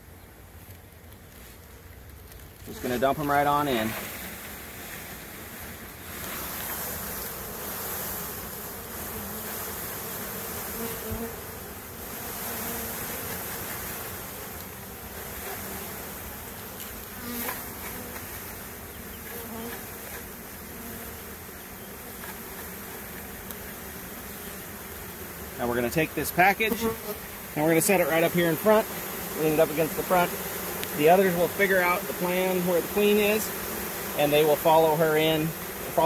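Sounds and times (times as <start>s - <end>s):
honey bees buzzing: 0.0s - 36.0s.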